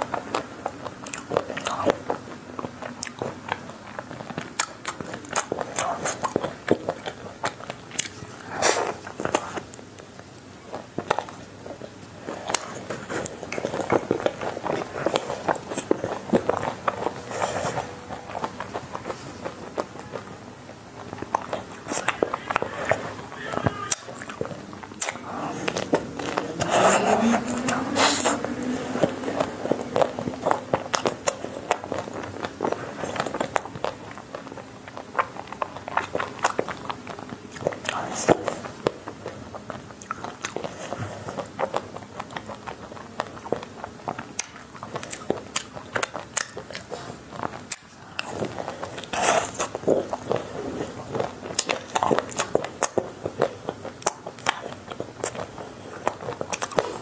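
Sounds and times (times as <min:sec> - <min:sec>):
chocolate shell crunching while chewing: 0:00.0 - 0:57.0.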